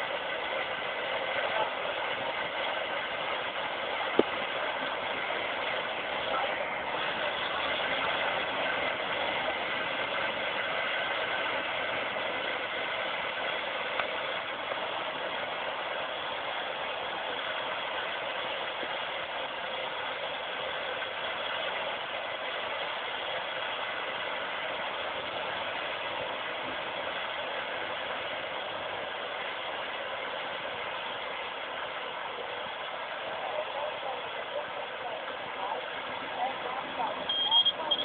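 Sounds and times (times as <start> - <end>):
light aircraft engine drone: 0.0 - 38.0.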